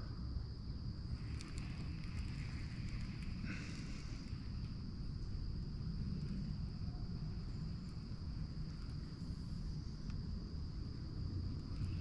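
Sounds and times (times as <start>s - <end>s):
insects high-pitched drone: 0.0s - 12.0s.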